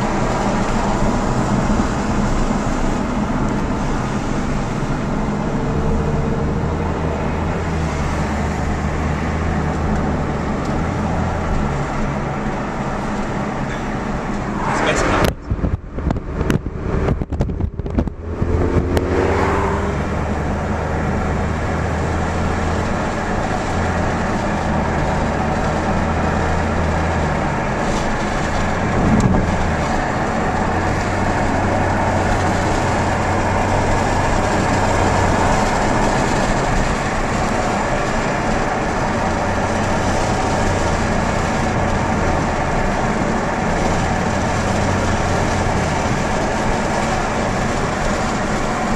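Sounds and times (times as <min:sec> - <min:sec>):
car engine running: 0:00.0 - 0:48.9
road noise: 0:00.0 - 0:48.9.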